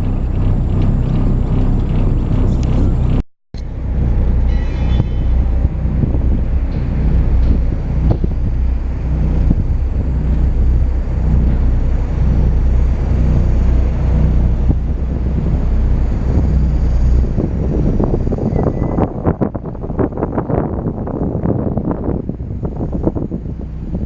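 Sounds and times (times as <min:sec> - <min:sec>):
low rumble of moving vehicle: 0:00.0 - 0:24.0
wind buffeting microphone: 0:00.0 - 0:24.0.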